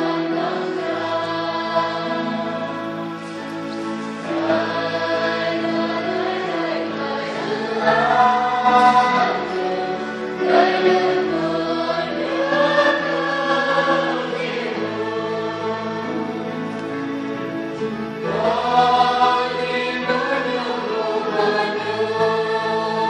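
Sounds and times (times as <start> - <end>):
choir singing a hymn: 0.0 - 23.0.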